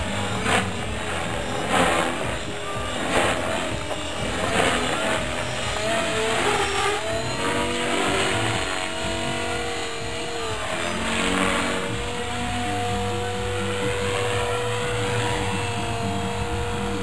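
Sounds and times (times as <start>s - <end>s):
model helicopter rotor whine: 0.0s - 17.0s
steady rushing noise: 0.0s - 17.0s.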